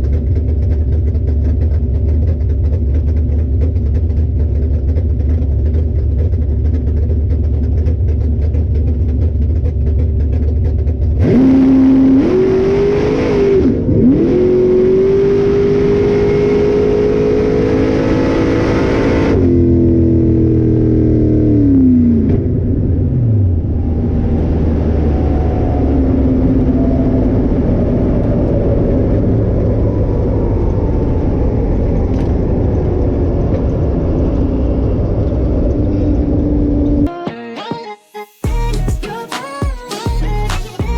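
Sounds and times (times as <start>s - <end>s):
car engine revving: 0.0s - 37.1s, 38.5s - 40.9s.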